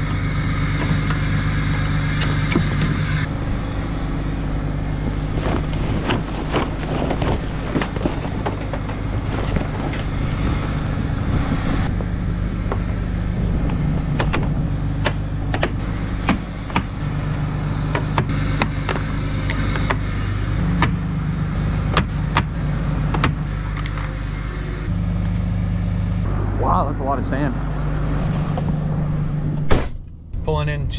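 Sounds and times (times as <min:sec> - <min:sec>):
diesel truck engine driving: 0:00.0 - 0:30.9.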